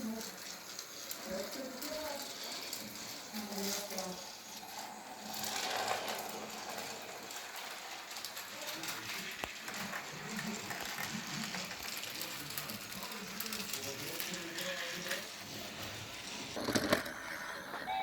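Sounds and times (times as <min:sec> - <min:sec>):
faint rattling: 0:00.0 - 0:17.3
toy train motor whirring: 0:00.0 - 0:18.0.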